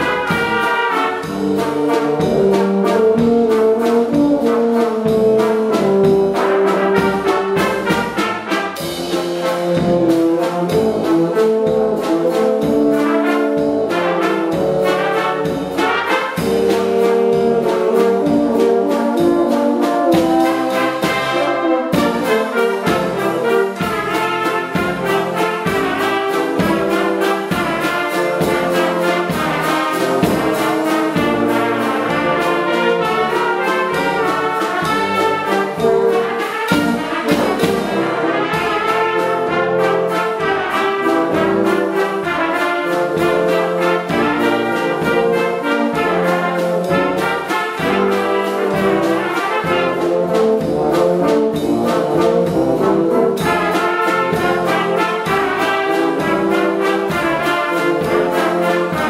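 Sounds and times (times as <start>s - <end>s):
brass band playing: 0.0s - 59.0s
steady drum beat: 0.0s - 59.0s.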